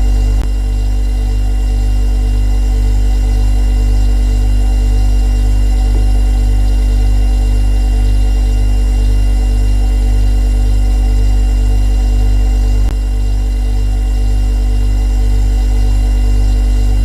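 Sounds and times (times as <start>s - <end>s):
refrigerator humming: 0.0s - 17.0s.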